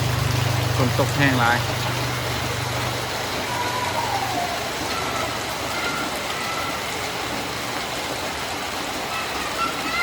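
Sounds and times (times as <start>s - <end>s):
low engine-like hum: 0.0s - 8.2s
heavy rain hiss: 0.0s - 10.0s.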